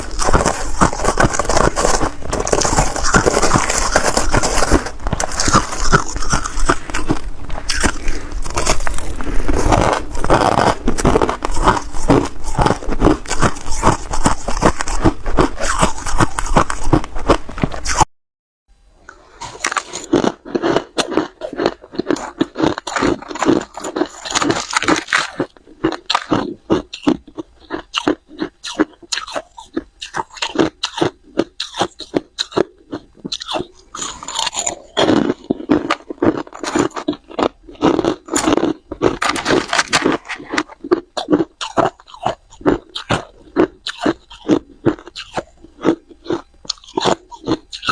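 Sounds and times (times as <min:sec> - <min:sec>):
ice being chewed: 0:00.0 - 0:18.0, 0:19.1 - 0:47.9.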